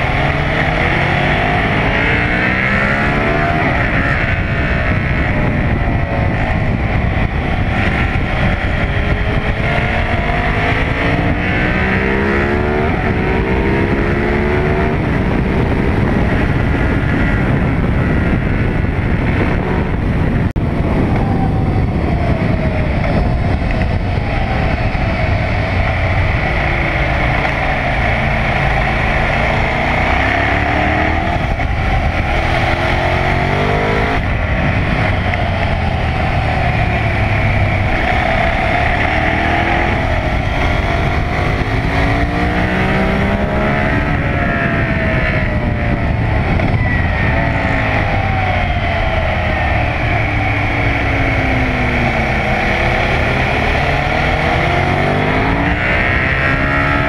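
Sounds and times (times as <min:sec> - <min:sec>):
motorcycle engine accelerating hard: 0:00.0 - 0:57.0.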